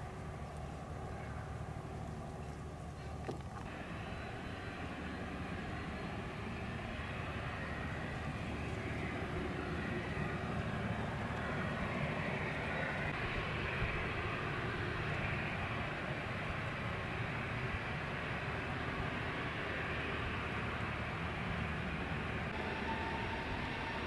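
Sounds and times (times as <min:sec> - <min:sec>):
jet engines idling: 0:00.0 - 0:24.0.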